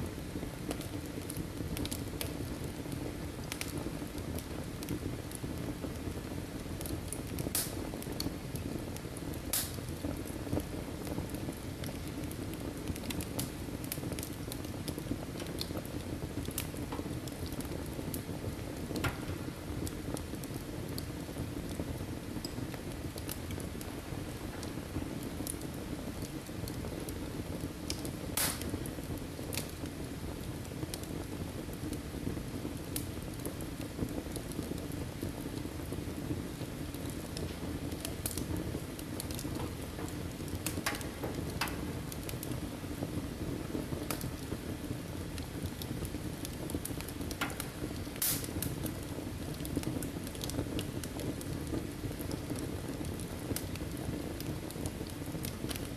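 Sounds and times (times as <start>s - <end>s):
fire burning and crackling: 0.0s - 55.9s.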